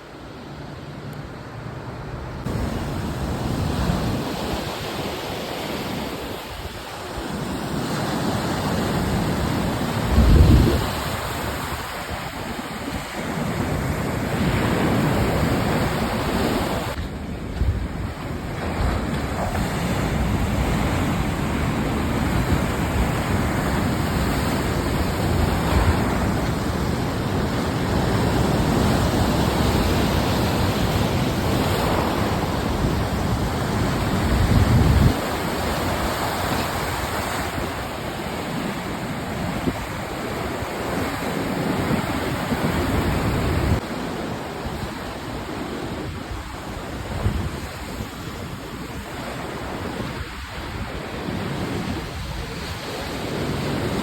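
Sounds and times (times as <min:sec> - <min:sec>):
surf washing on shore: 0:00.0 - 0:54.0
gusty wind on microphone: 0:02.3 - 0:54.0.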